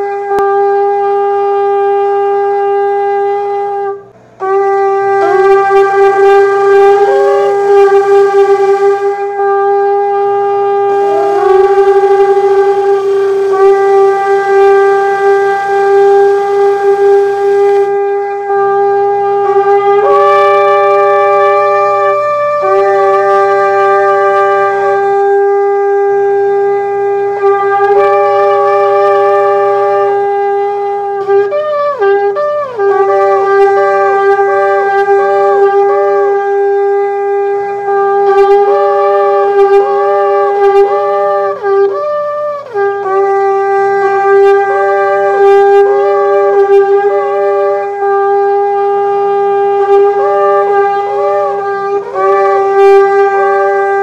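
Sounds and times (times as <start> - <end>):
shofar sounding: 0.0 - 54.0.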